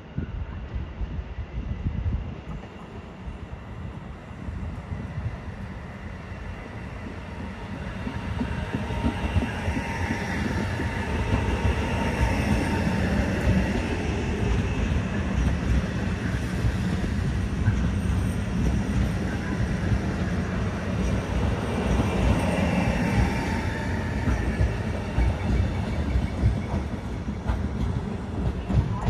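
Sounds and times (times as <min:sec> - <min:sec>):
train rolling past: 0:00.0 - 0:29.0.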